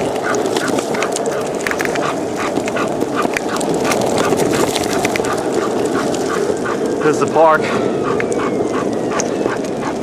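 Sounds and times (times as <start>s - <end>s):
dog panting: 0.0s - 10.0s
longboard wheels rolling on pavement: 0.0s - 10.0s.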